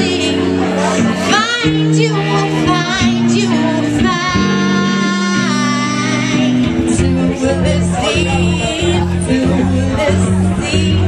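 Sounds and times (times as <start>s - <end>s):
guitar chords: 0.0s - 11.0s
woman singing with vibrato: 0.0s - 11.0s.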